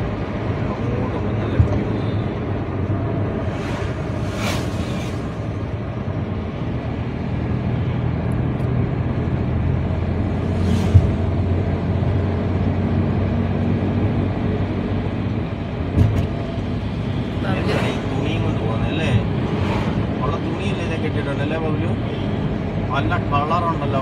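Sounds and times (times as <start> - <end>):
car engine and road hum: 0.0 - 24.0.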